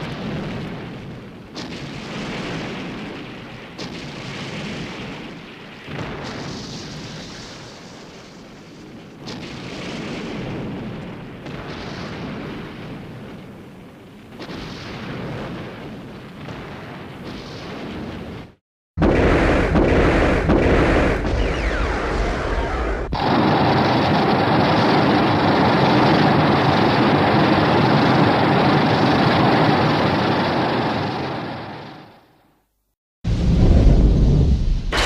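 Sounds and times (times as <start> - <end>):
explosions: 0.0 - 32.1, 33.3 - 35.0.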